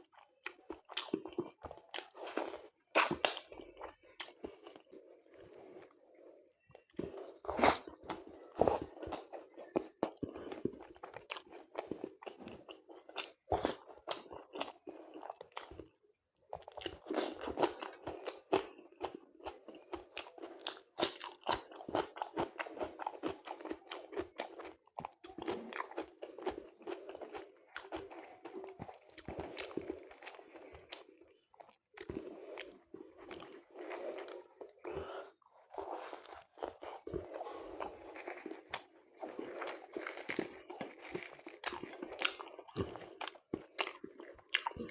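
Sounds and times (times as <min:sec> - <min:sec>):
person chewing and crunching food: 0:00.0 - 0:44.9.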